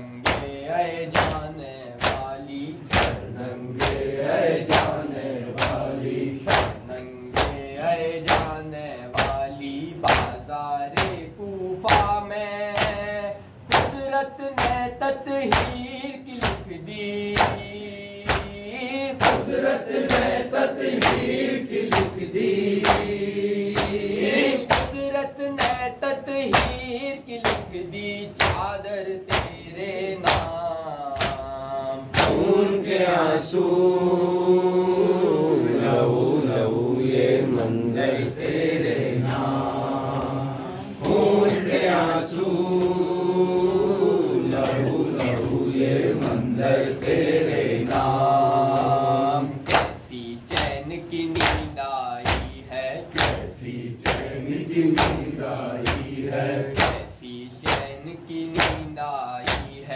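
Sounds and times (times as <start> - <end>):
man singing a lament into a microphone: 0.0 - 4.0, 4.6 - 19.5, 21.9 - 35.5, 37.9 - 47.1, 47.8 - 59.9
group chanting: 0.0 - 14.0, 14.6 - 26.8, 27.4 - 59.9
hands slapping chests rhythmically: 0.1 - 59.8.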